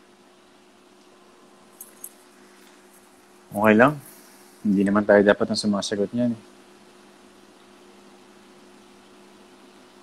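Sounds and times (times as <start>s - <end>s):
faint low hum: 0.0s - 10.0s
steady hiss: 0.0s - 10.0s.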